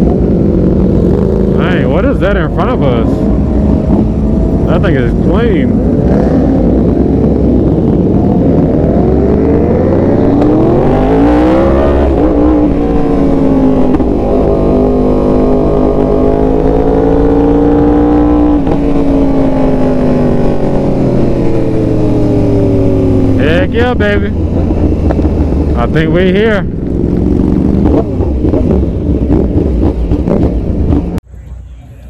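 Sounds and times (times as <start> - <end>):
motorcycle engine revving: 0.0 - 31.3
wind and road noise: 0.0 - 32.0.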